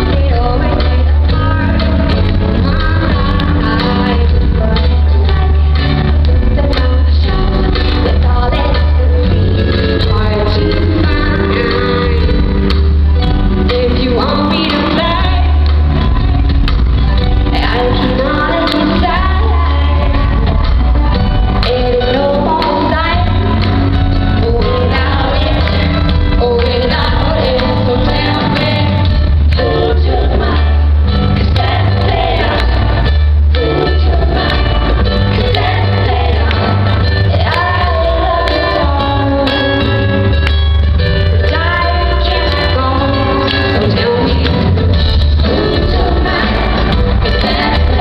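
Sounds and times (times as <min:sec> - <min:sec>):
woman singing into microphone: 0:00.0 - 0:12.8, 0:13.6 - 0:40.4, 0:41.4 - 0:48.0
band with heavy bass: 0:00.0 - 0:48.0.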